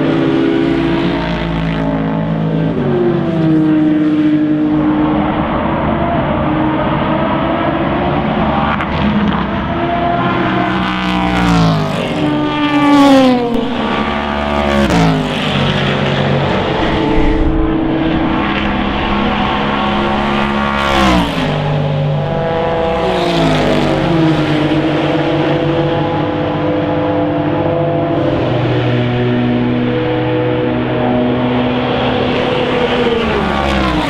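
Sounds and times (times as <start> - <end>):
race cars passing at speed: 0.0 - 34.0.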